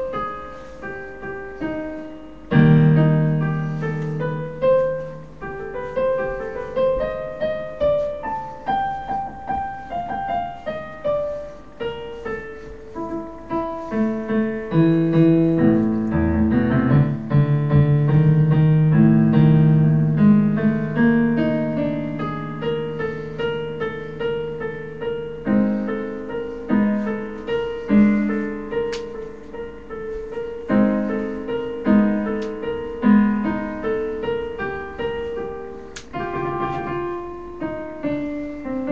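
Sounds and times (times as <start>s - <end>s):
solo piano music: 0.0s - 38.9s.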